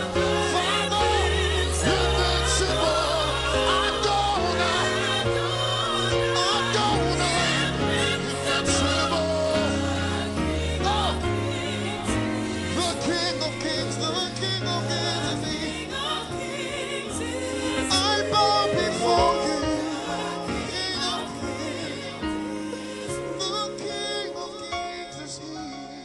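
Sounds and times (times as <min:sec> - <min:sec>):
live gospel band playing: 0:00.0 - 0:26.0
people singing: 0:00.0 - 0:26.0.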